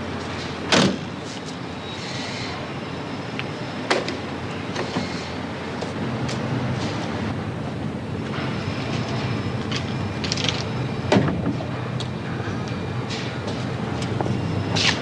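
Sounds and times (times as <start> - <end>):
steady vehicle rumble: 0.0 - 15.0.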